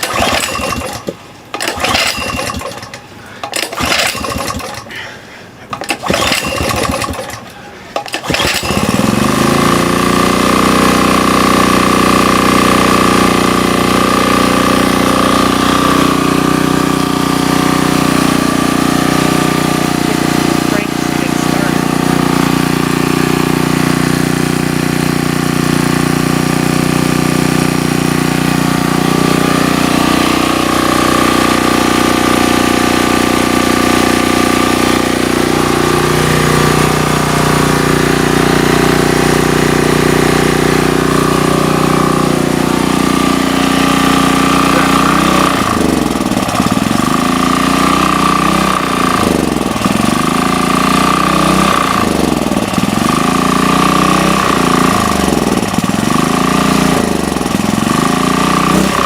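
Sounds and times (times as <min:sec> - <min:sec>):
portable generator engine running: 0:00.0 - 0:59.0.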